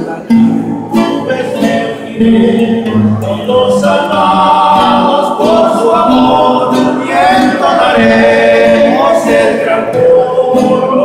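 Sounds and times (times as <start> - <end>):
acoustic guitars strummed: 0.0 - 11.0
men singing long held notes: 0.9 - 11.0.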